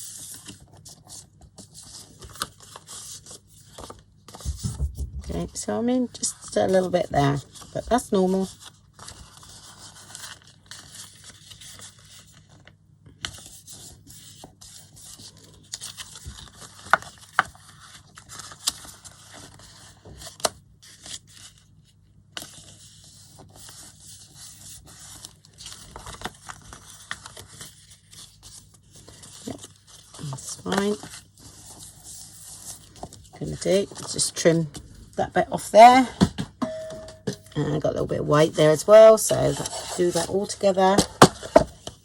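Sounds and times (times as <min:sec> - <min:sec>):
paper rustling and scraping: 0:00.0 - 0:35.0, 0:38.6 - 0:42.0.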